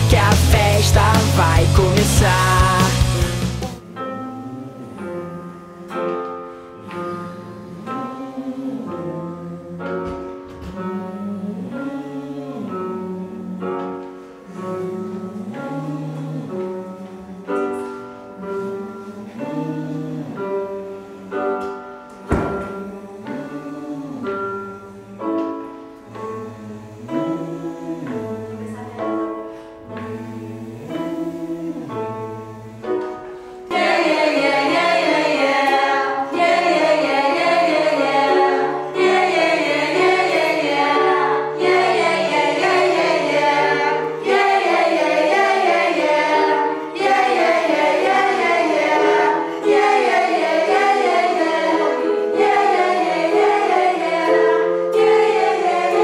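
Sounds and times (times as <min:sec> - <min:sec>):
group singing vocal warm-ups: 0:00.0 - 0:56.0
electronic keyboard playing scales: 0:10.8 - 0:56.0.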